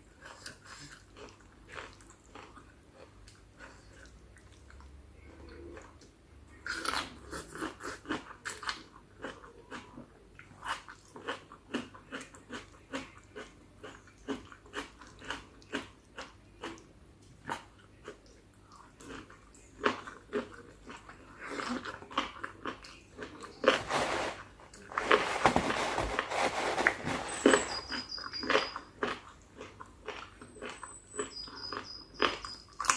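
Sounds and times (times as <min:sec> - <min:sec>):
crunchy chewing: 0:00.2 - 0:32.9.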